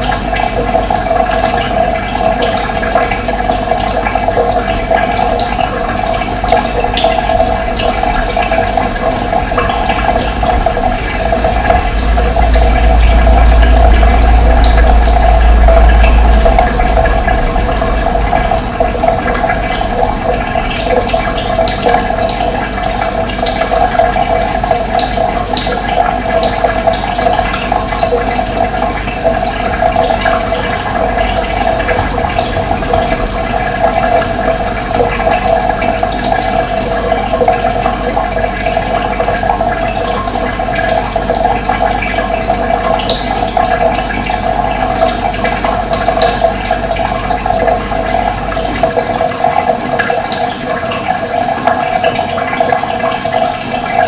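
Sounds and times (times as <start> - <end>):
running water gurgling: 0.0 - 54.0.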